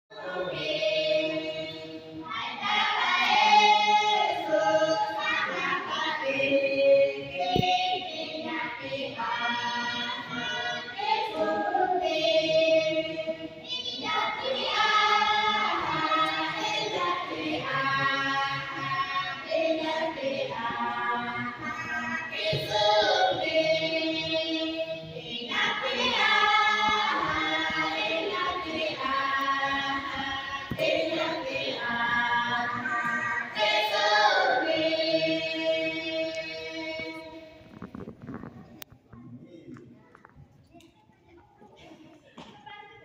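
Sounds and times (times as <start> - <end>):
congregation singing a hymn: 0.1 - 37.5.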